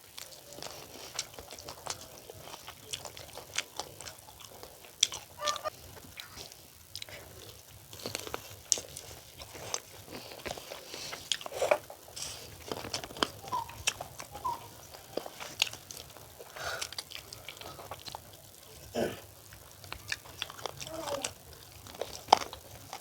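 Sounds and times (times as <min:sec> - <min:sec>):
person chewing with wet smacks: 0:00.0 - 0:23.0.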